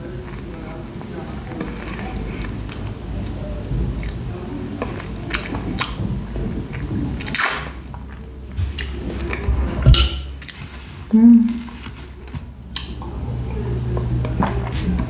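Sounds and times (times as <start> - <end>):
mouth chewing soft food: 0.0 - 9.8, 10.4 - 15.0.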